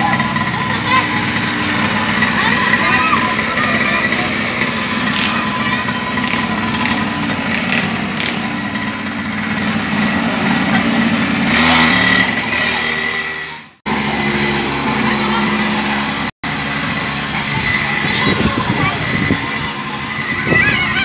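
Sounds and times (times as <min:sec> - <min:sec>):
small two-stroke engine buzzing: 0:00.0 - 0:21.0.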